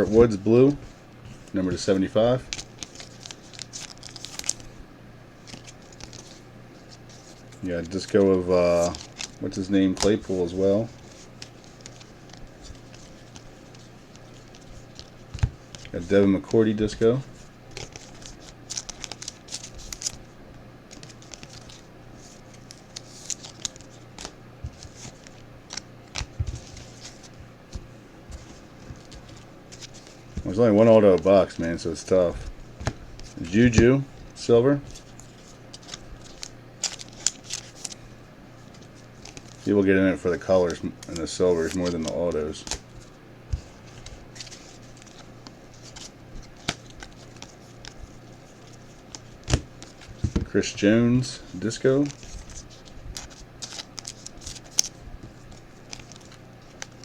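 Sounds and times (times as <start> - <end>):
trading cards flipping and rustling: 0.0 - 4.8, 5.4 - 57.0
steady low hum: 0.0 - 57.0.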